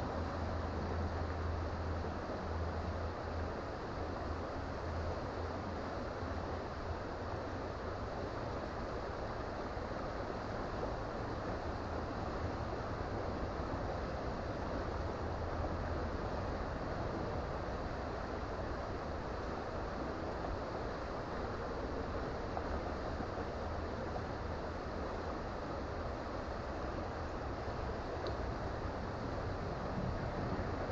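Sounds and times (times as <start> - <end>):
creek water rushing over rocks: 0.0 - 30.9.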